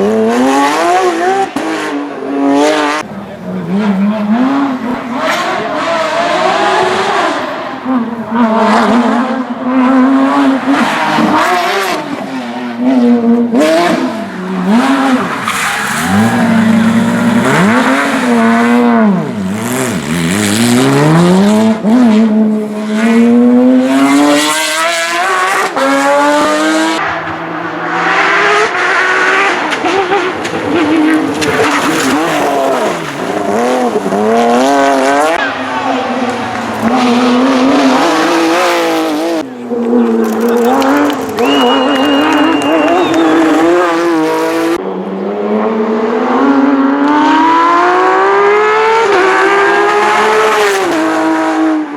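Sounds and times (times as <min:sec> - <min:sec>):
car engine revving hard: 0:00.0 - 0:51.9.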